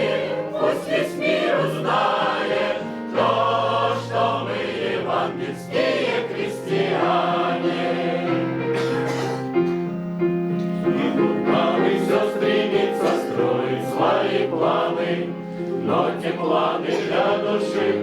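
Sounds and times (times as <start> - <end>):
choir singing: 0.0 - 9.3, 10.6 - 18.0.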